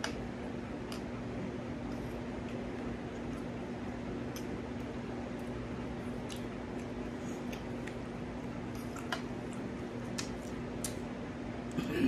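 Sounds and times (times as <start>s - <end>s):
person chewing: 0.0s - 11.8s.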